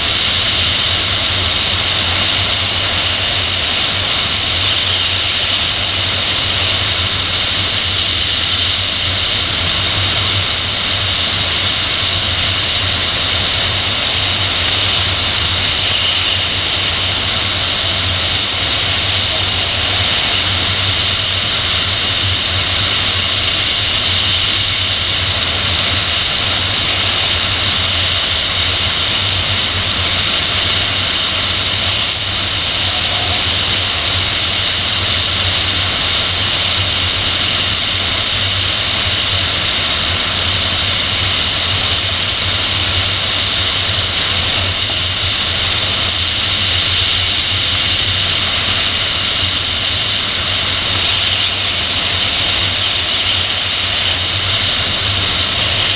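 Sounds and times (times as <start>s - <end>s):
low drone: 0.0s - 55.9s.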